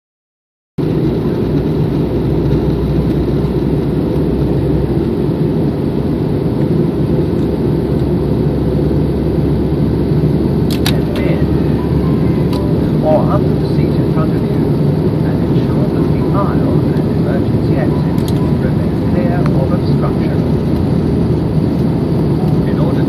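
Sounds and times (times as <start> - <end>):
jet airliner cabin noise: 0.8 - 23.0.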